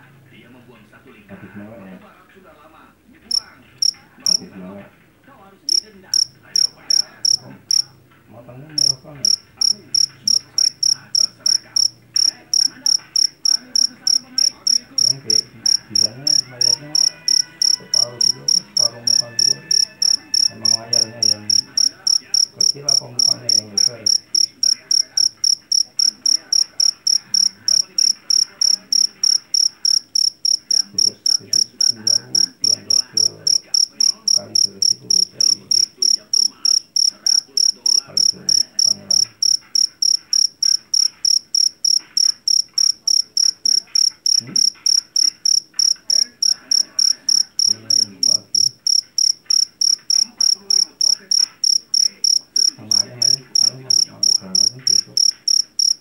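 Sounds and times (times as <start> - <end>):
field cricket chirping: 3.3 - 4.6, 5.7 - 7.9, 8.7 - 56.0.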